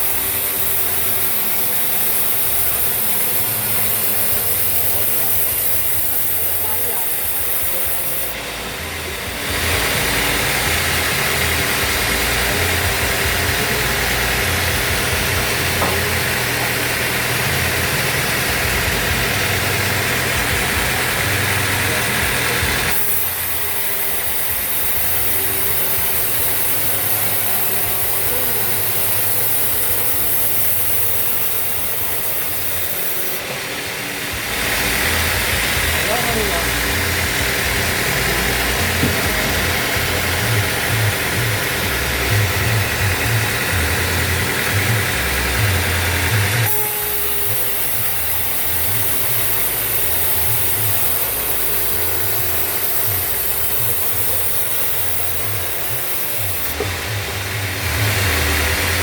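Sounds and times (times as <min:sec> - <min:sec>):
band sawmill machinery running: 0:00.0 - 0:59.0.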